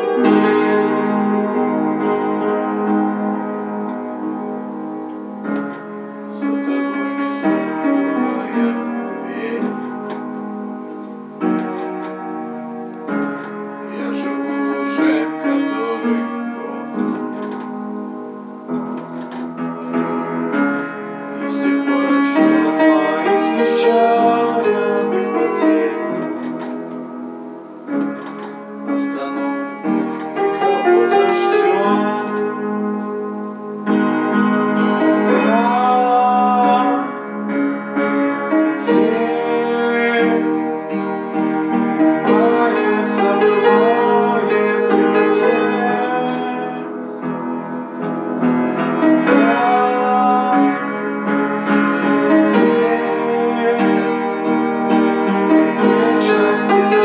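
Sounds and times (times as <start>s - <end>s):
person singing: 0.0s - 57.0s
piano accompaniment: 0.0s - 57.0s.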